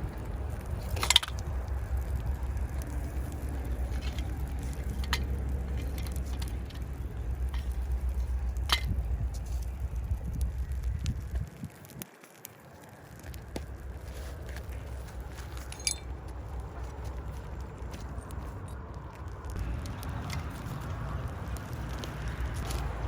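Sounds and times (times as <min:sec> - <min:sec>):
hard parts clinking: 0:00.0 - 0:12.0, 0:13.1 - 0:23.0
steady low rumble: 0:00.0 - 0:12.0, 0:12.9 - 0:23.0.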